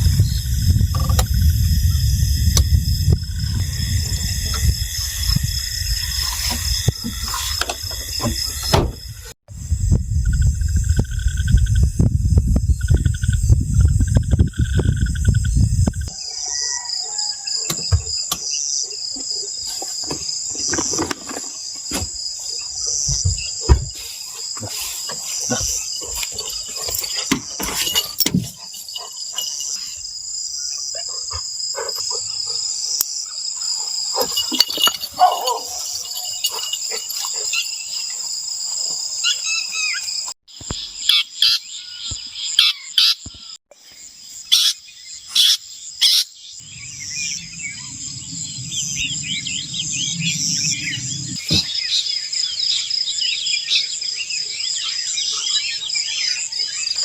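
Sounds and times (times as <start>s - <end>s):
night insects trilling: 0.0s - 57.0s.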